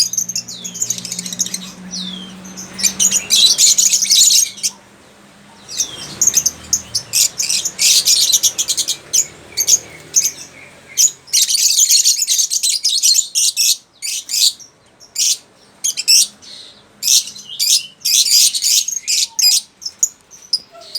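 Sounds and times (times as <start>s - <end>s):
lovebirds chirping and squawking: 0.0s - 20.9s.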